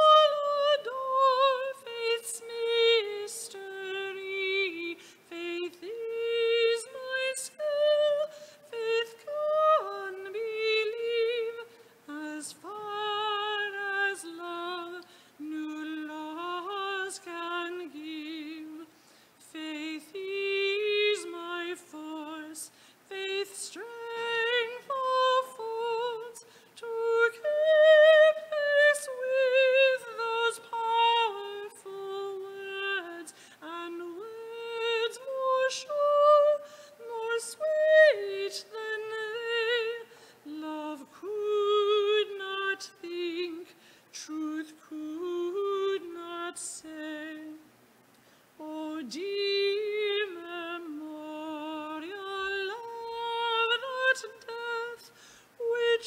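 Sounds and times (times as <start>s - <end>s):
woman singing a hymn: 0.0s - 47.8s, 48.5s - 56.0s.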